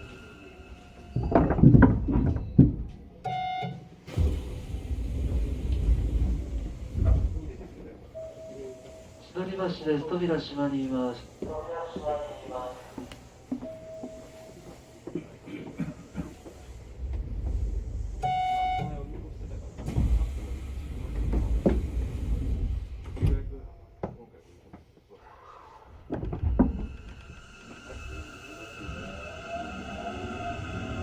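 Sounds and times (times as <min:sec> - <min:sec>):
train doors sliding shut: 0:00.0 - 0:24.0, 0:25.8 - 0:31.0.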